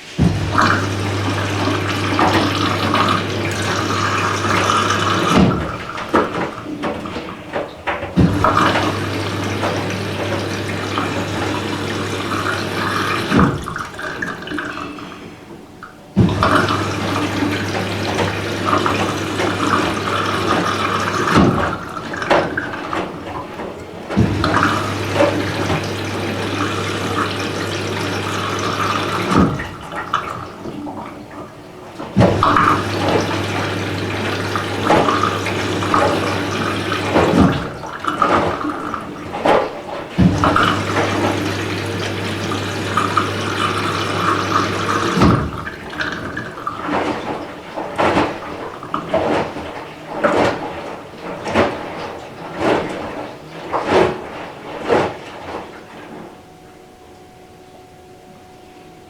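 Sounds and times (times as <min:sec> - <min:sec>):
water splashing in washing machine: 0:00.0 - 0:58.9
washing machine low hum: 0:00.0 - 0:59.0.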